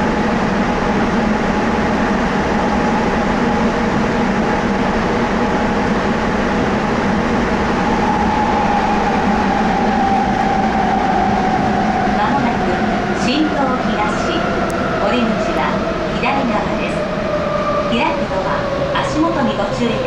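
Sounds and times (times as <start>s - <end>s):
train rolling rumble: 0.0s - 20.0s.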